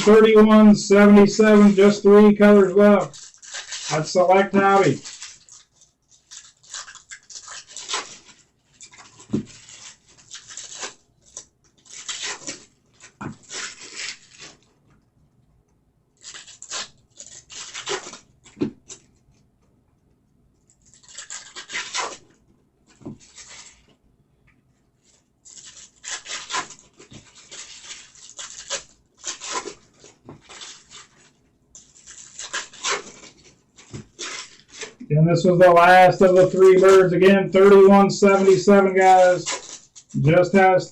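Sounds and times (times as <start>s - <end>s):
cards crinkling and sliding: 0.0s - 14.8s, 16.2s - 19.2s, 20.6s - 24.0s, 25.0s - 40.9s
card packs being torn open: 1.0s - 14.7s, 16.2s - 19.1s, 20.7s - 23.9s, 25.1s - 35.0s, 35.8s - 40.9s.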